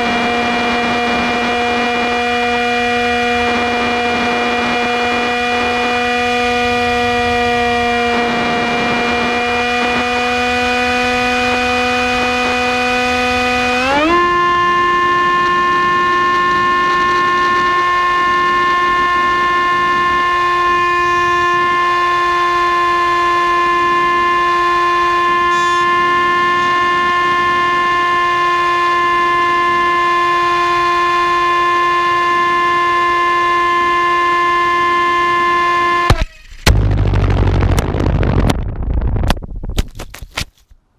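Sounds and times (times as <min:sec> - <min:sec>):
quadcopter motors whining: 0:00.0 - 0:37.7.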